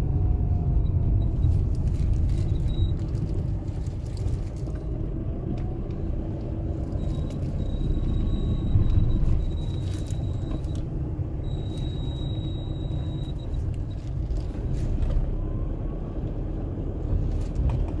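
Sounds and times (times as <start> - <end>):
car cabin low rumble: 0.0 - 18.0.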